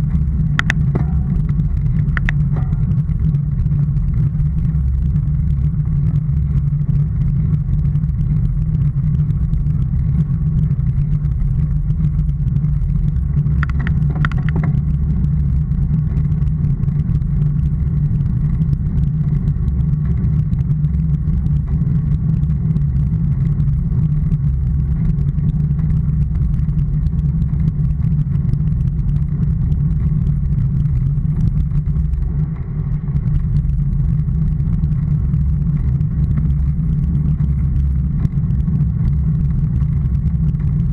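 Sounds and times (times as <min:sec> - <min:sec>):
wind and tyre rumble: 0:00.0 - 0:40.9.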